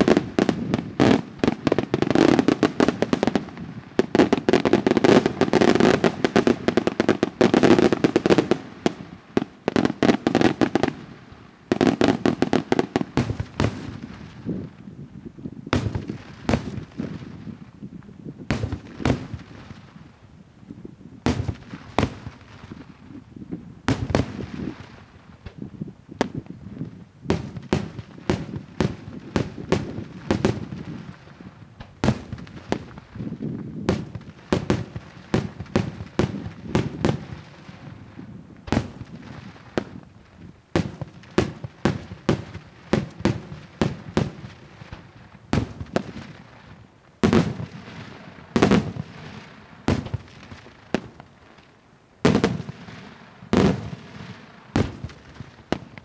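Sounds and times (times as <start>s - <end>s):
fireworks bursting: 0.0s - 15.0s, 15.6s - 20.1s, 21.1s - 56.0s.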